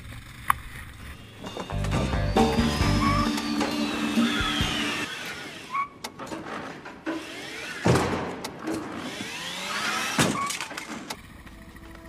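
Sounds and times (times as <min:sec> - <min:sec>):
electric cart motor whining: 0:00.0 - 0:12.0.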